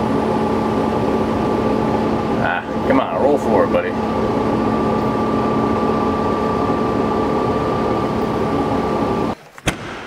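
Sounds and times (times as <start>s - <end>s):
tractor diesel engine running: 0.0s - 9.4s.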